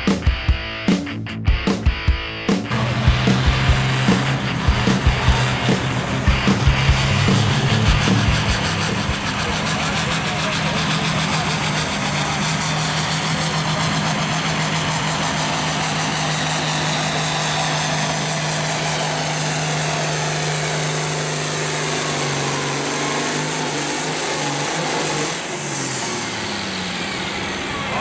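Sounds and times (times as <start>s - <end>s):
tractor diesel engine under load: 2.7s - 28.0s.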